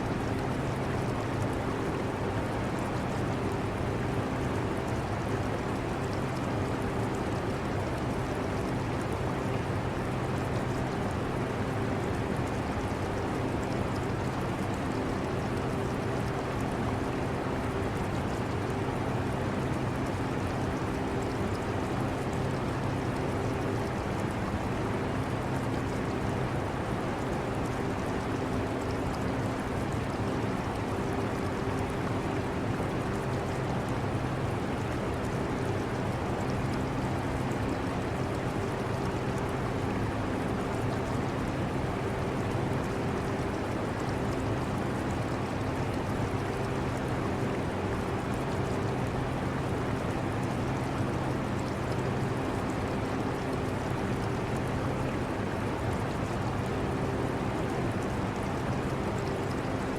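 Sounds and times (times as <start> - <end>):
aquarium water trickling: 0.0 - 59.9.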